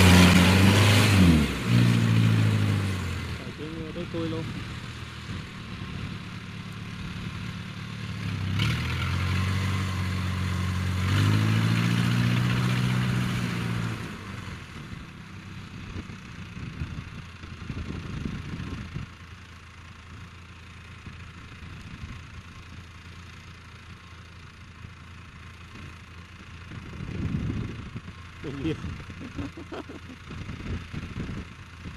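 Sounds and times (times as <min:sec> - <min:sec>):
harvester engine running: 0:00.0 - 0:31.9.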